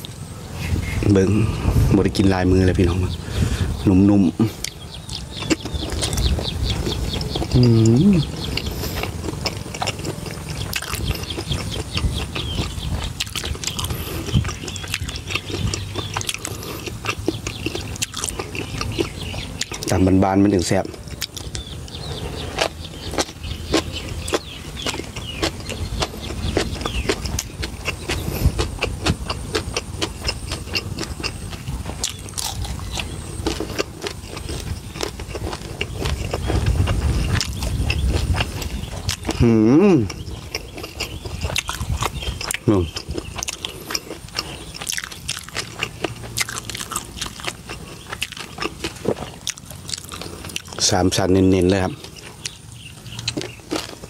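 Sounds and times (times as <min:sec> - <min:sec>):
birds chirping: 0:00.0 - 0:54.0
chewing and mouth smacks: 0:04.4 - 0:54.0.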